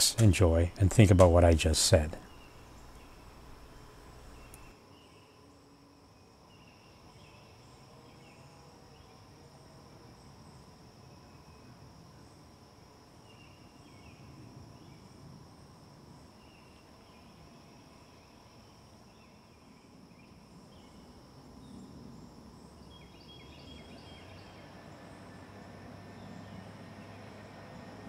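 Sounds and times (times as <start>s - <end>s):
insect chirps: 0.0s - 28.0s
low rumbling hiss: 0.0s - 28.0s.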